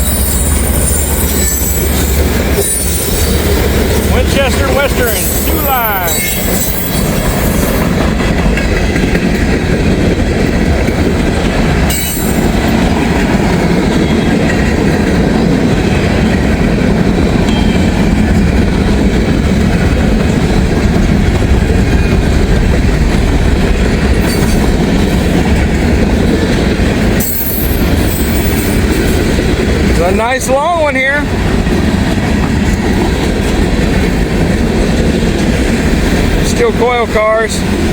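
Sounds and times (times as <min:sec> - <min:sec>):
train wheels clattering on rail: 0:00.0 - 0:37.9.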